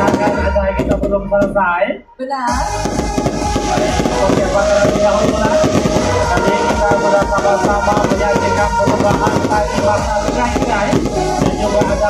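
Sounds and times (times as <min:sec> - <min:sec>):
fireworks crackling and popping: 0:00.0 - 0:01.5, 0:02.6 - 0:12.0
loud music: 0:00.0 - 0:12.0.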